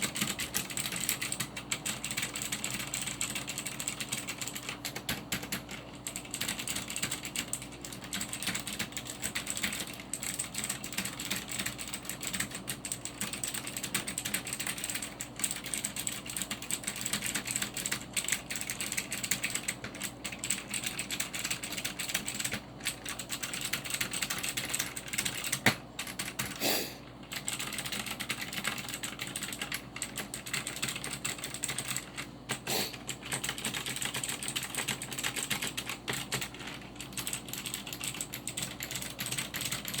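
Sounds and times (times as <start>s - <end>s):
fast mechanical keyboard typing: 0.0s - 26.6s, 27.2s - 40.0s.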